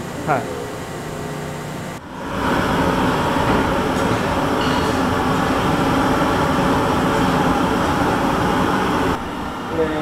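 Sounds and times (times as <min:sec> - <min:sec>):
gas burners rushing: 0:00.0 - 0:10.0.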